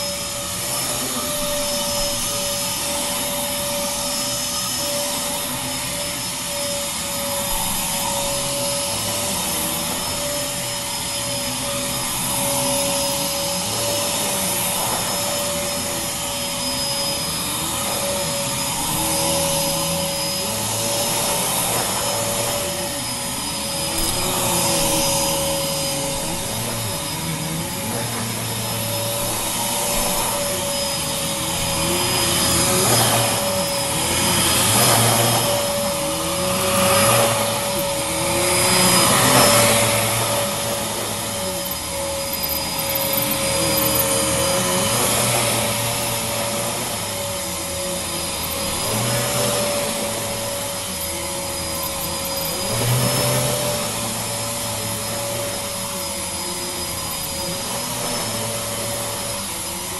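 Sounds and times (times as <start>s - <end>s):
vacuum cleaner running on carpet: 0.0s - 59.9s.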